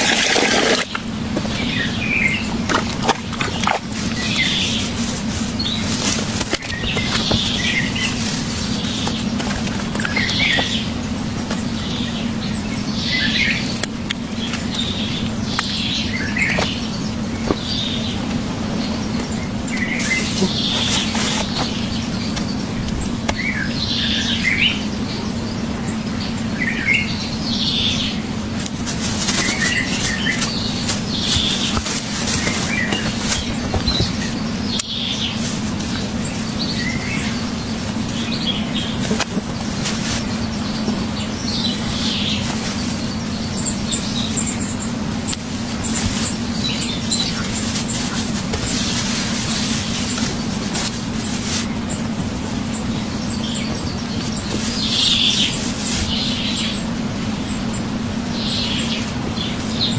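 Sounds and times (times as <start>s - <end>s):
noisy background: 0.0s - 59.9s
steady low hum: 0.0s - 59.9s
wild birds chirping: 0.0s - 59.9s.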